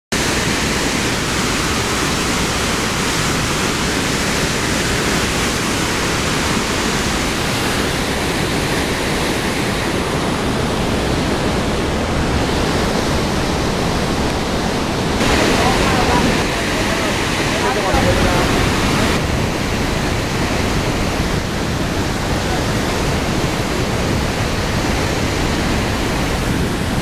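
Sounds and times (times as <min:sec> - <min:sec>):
waterfall rushing: 0:00.1 - 0:27.0.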